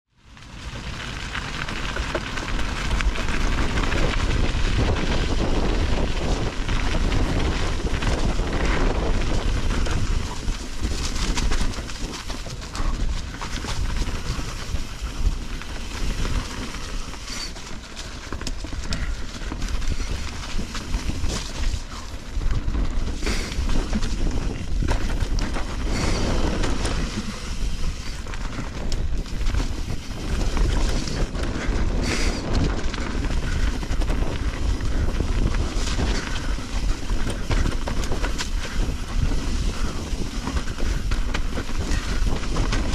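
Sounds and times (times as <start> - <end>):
bike tyres on dirt: 0.1 - 42.9
wind rumble on microphone: 0.3 - 42.9
bike knocks and rattles: 0.4 - 42.9.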